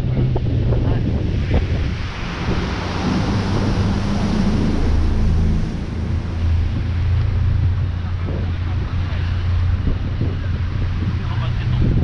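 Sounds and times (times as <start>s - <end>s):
boat engine humming: 0.0s - 12.0s
water washing along hull: 0.0s - 12.0s
wind buffeting microphone: 0.0s - 12.0s.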